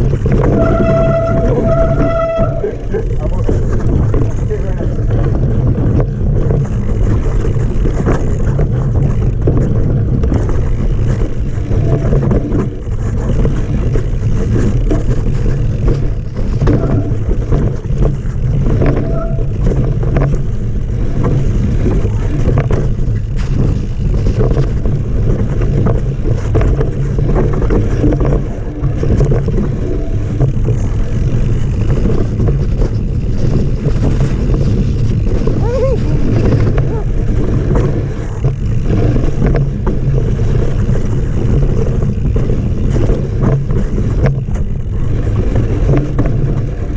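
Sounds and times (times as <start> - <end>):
bike rattling and knocking over bumps: 0.0 - 46.9
wind rumble on microphone: 0.0 - 46.9.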